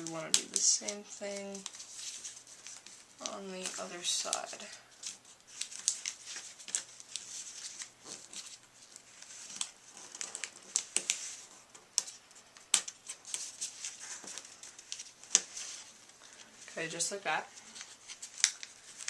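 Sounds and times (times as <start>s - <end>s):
paper being folded and creased: 0.0s - 19.0s.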